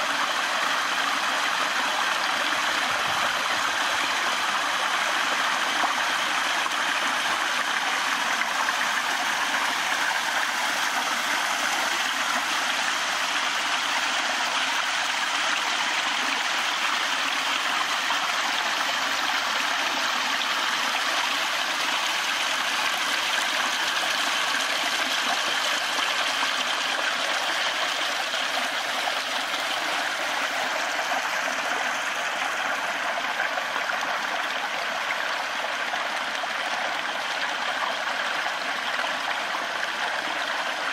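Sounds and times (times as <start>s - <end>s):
stream water splashing over rocks: 0.0s - 40.9s.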